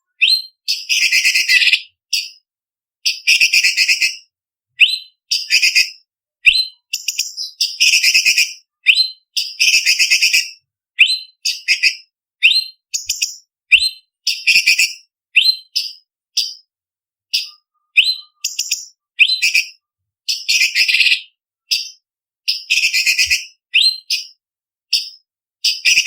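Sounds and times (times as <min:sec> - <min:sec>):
bird singing rapid varied song: 0:00.0 - 0:02.4, 0:03.0 - 0:16.7, 0:17.3 - 0:26.0.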